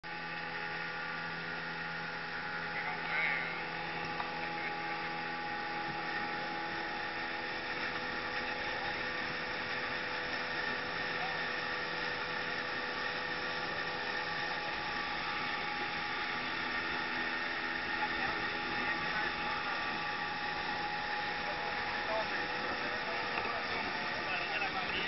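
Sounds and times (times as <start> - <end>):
outboard motor humming: 0.0 - 25.0.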